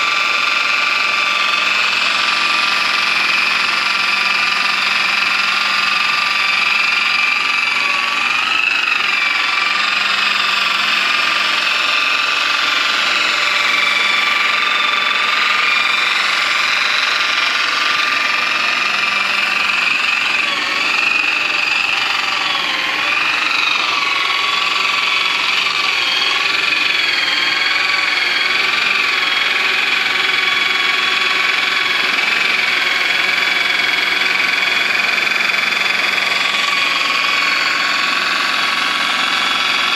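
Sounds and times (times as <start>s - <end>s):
motor whining: 0.0s - 39.9s.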